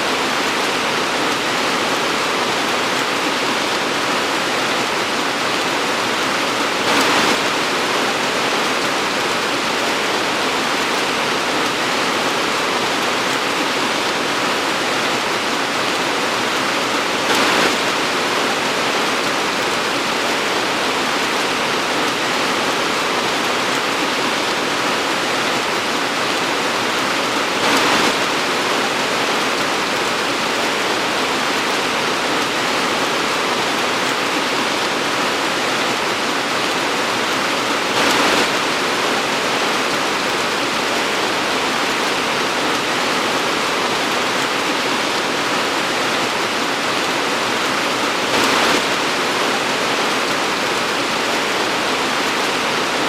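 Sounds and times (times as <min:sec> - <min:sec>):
torrential rain pouring: 0:00.0 - 0:53.0.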